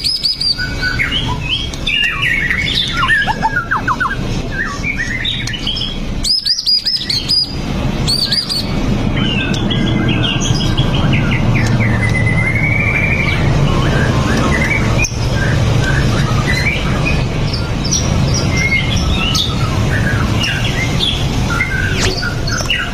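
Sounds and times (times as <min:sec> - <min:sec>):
bird song whistles and trills: 0:00.0 - 0:22.9.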